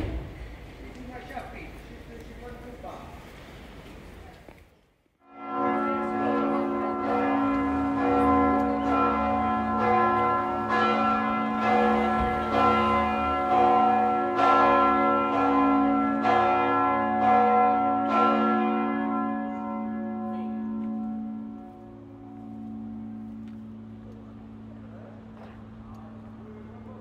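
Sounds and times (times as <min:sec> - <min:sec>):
church bells ringing: 0:05.2 - 0:27.0.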